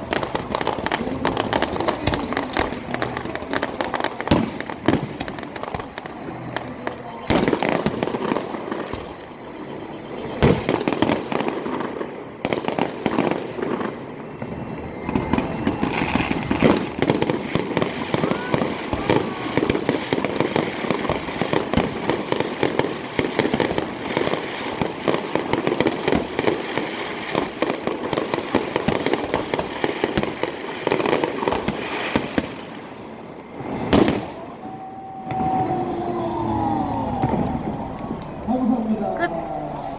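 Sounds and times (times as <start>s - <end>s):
fireworks bangs and crackles: 0.0s - 39.8s.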